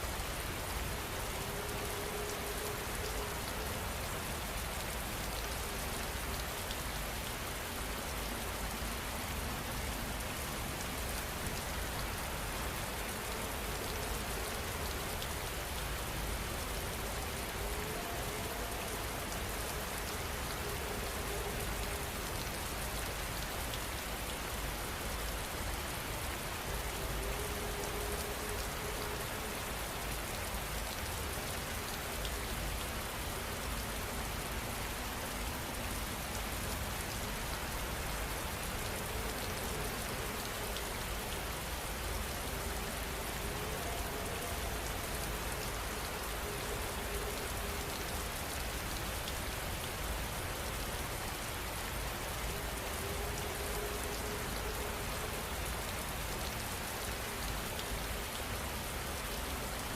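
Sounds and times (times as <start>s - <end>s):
rain falling steadily: 0.0s - 59.9s.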